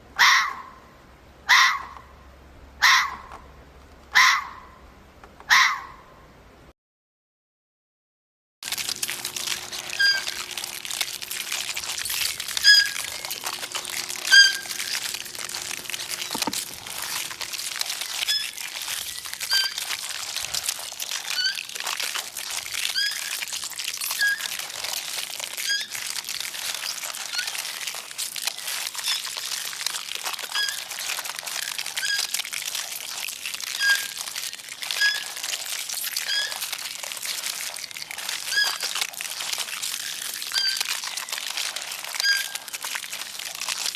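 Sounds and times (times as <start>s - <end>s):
rustling and crackling: 8.6s - 43.9s.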